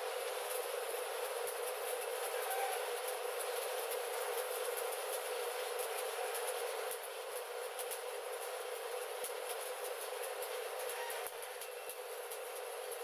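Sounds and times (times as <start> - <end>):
welding arc crackling and sizzling: 0.0 - 13.0.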